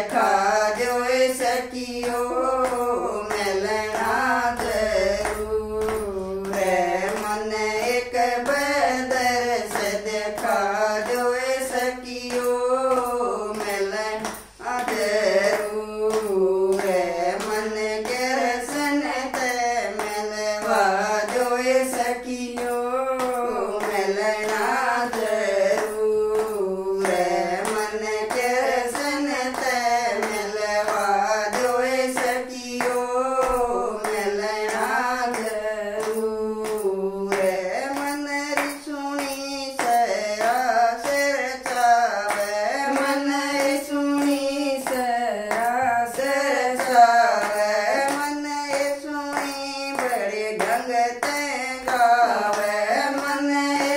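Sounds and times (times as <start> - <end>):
hands clapping in rhythm: 0.0 - 53.9
women singing: 0.0 - 53.9.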